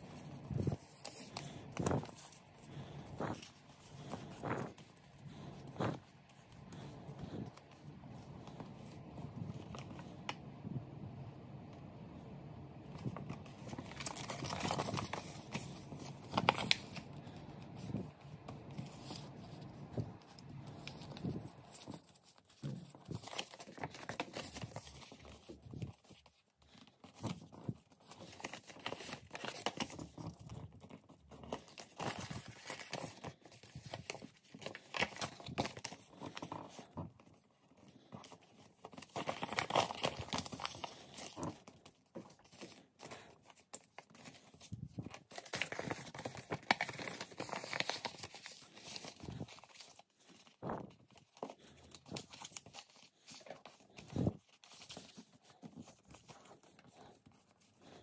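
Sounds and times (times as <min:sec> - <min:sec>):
paper rustling and crinkling: 0:00.0 - 0:10.8, 0:12.8 - 0:58.0.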